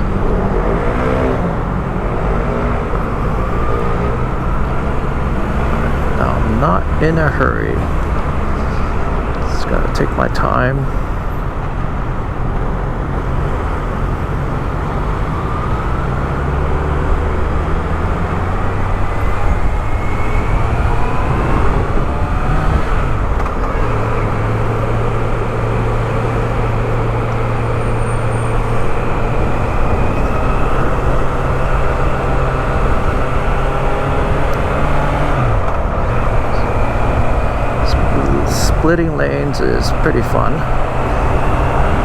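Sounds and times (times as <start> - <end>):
rising engine whine: 0.0 - 42.0
road and traffic noise: 0.0 - 42.0.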